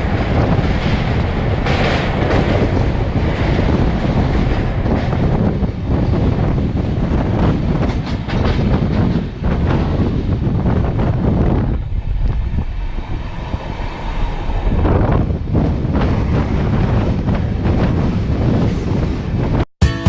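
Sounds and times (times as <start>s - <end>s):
train wheels rumbling on rails: 0.0s - 19.7s.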